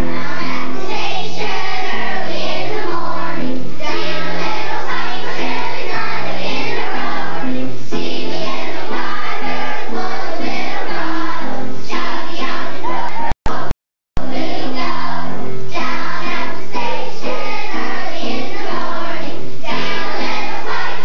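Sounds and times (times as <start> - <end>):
children's choir singing: 0.0 - 21.0
musical accompaniment: 0.0 - 21.0.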